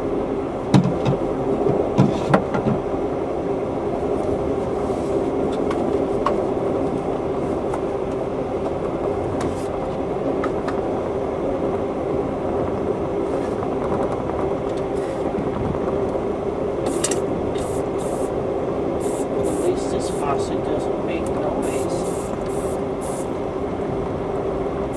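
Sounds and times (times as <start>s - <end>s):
train car rumble on rails: 0.0s - 24.9s.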